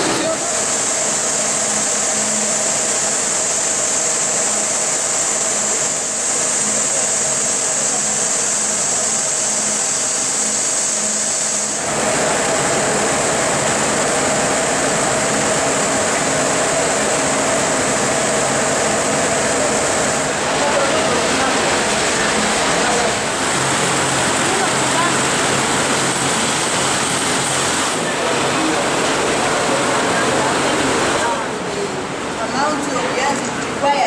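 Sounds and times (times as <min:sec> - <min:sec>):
spinning machines humming: 0:00.0 - 0:32.3.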